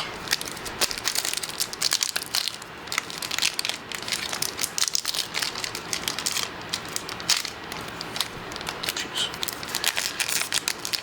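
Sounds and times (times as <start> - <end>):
foil wrapper crinkling: 0.2 - 11.0.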